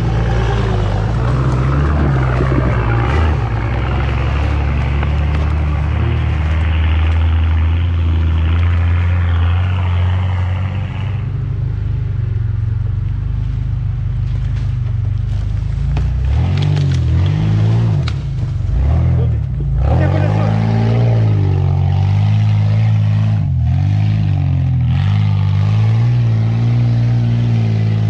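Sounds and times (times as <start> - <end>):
engine revving: 0.0 - 28.0
off-road engines under load: 0.0 - 28.0.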